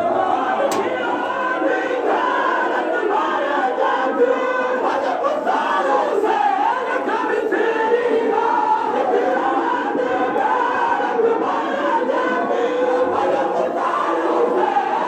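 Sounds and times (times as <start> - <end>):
crowd of men chanting: 0.0 - 15.0.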